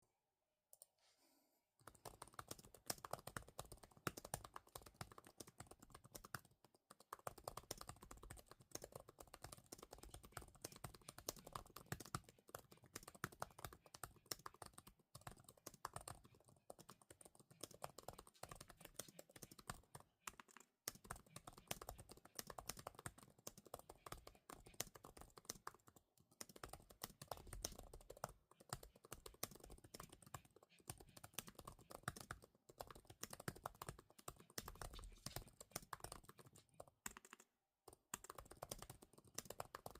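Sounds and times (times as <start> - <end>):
fast typing on keyboard: 1.8 - 39.9.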